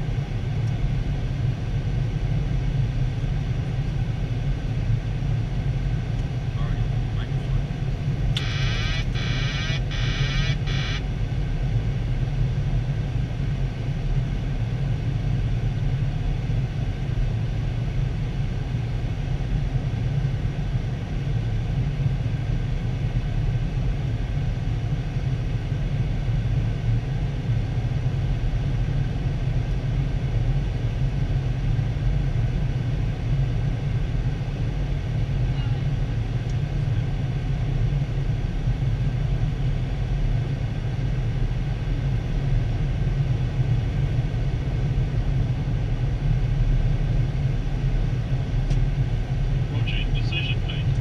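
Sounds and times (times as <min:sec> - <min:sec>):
airflow and engine rumble: 0:00.0 - 0:51.0.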